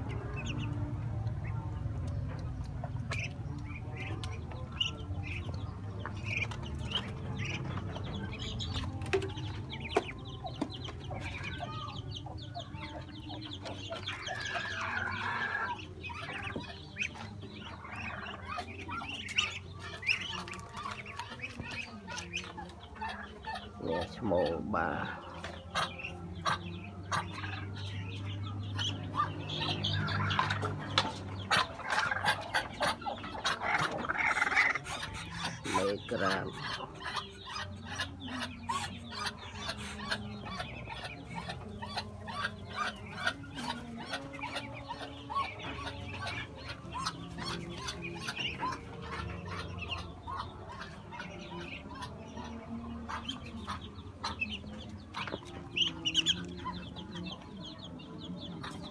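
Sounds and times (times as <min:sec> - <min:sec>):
fowl clucking: 0:02.4 - 0:57.8.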